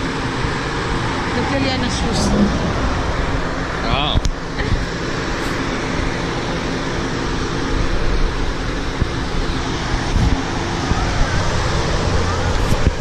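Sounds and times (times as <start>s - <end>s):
low engine hum: 0.0s - 13.0s
traffic noise: 0.0s - 13.0s.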